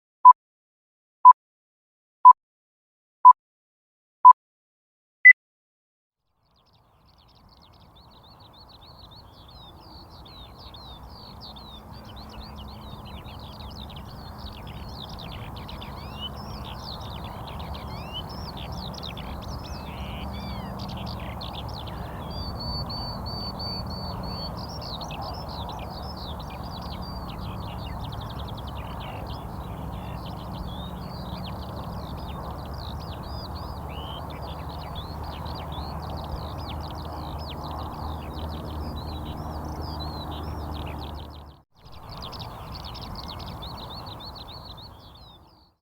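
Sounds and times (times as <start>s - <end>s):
chorus of birds chirping: 6.4s - 45.8s.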